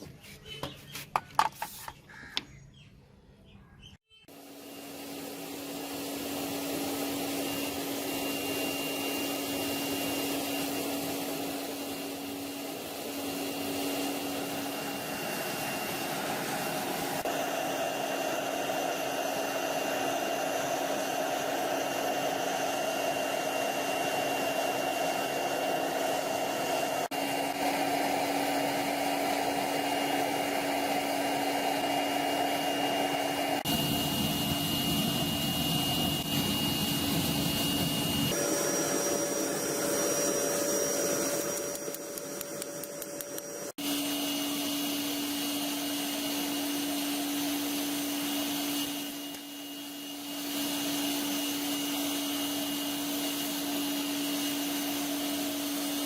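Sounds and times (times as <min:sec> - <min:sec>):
power tool motor whining: 0:04.3 - 0:56.0.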